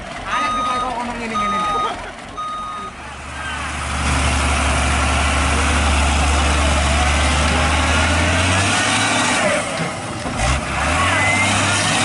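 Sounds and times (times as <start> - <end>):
truck engine idling: 0.0 - 11.8.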